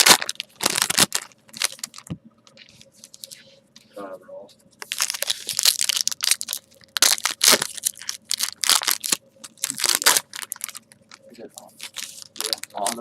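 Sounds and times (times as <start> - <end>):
wrappers tearing and crinkling: 0.0 - 3.4, 4.8 - 13.0.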